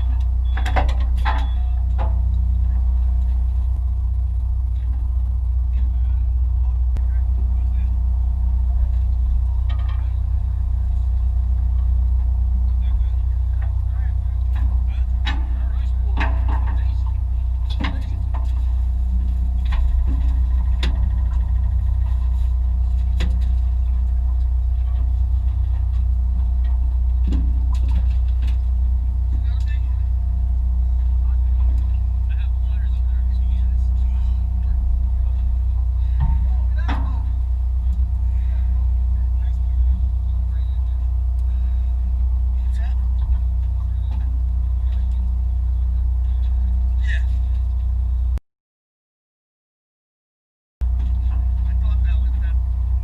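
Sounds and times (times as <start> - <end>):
boat engine droning: 0.0 - 48.4, 50.8 - 53.0.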